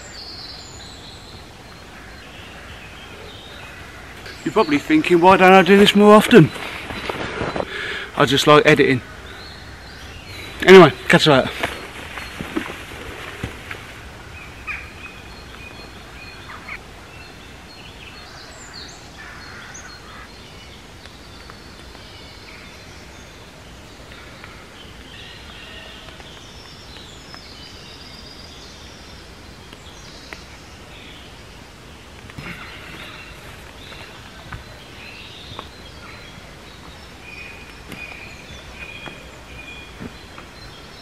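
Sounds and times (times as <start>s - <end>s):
songbirds chirping and trilling: 0.0s - 41.0s.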